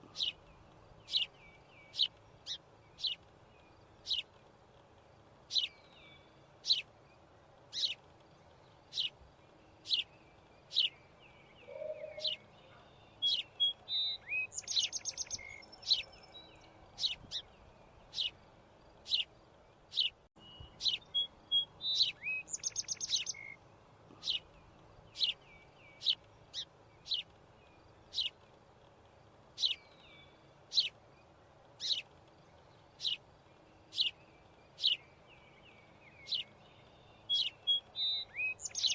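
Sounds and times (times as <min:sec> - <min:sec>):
bird chirping: 0:00.0 - 0:04.4, 0:05.4 - 0:28.5, 0:29.4 - 0:38.9.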